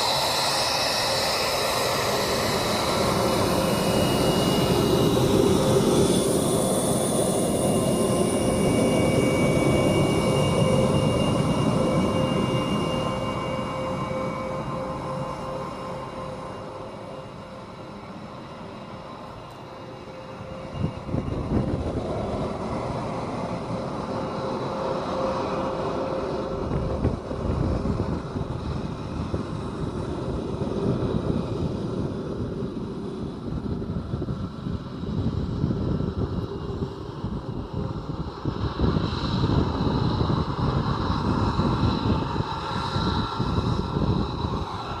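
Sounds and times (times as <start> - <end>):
high jet whine: 0.0 - 45.0
jet engines roaring: 0.0 - 45.0.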